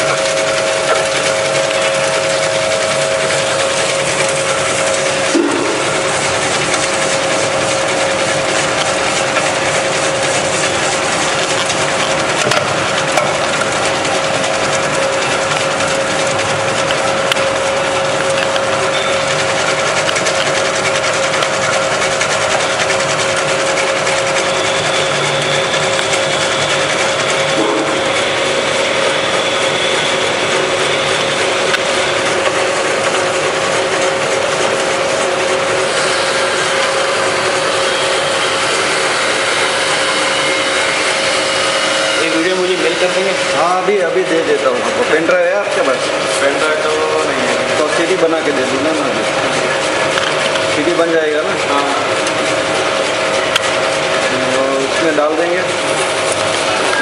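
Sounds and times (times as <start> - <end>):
machine clattering: 0.0 - 57.0
machine hum: 0.0 - 57.0.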